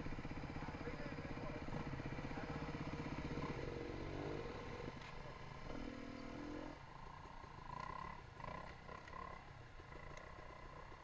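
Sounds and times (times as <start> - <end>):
motorcycle engines at low revs: 0.0 - 11.0.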